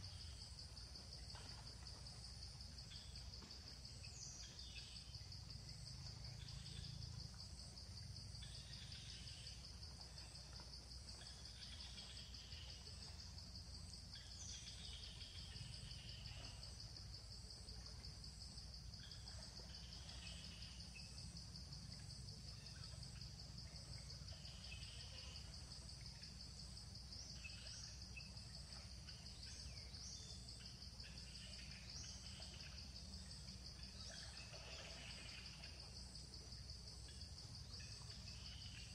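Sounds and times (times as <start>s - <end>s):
high drone of insects: 0.0s - 38.9s.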